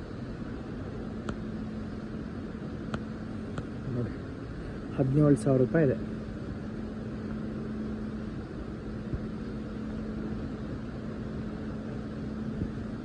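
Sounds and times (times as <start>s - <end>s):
low hum: 0.0s - 13.0s
ventilation drone: 0.0s - 13.0s.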